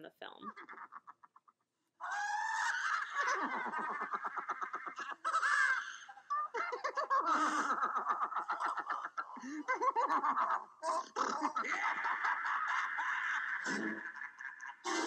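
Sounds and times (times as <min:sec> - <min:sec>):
man laughing hysterically: 0:00.5 - 0:15.0.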